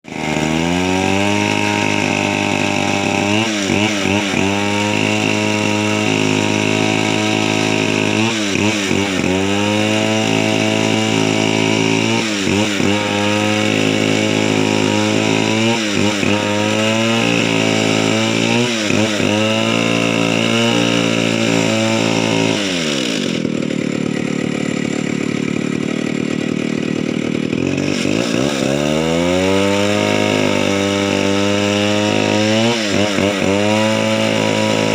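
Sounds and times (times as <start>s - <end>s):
chainsaw running at high revs: 0.0s - 34.9s.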